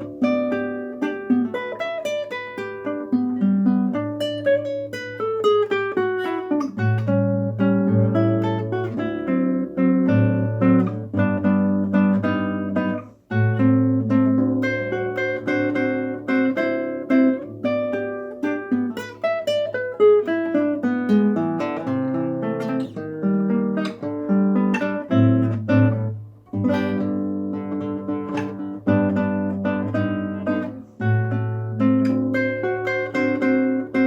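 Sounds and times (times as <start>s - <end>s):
acoustic guitar melody: 0.0s - 34.0s.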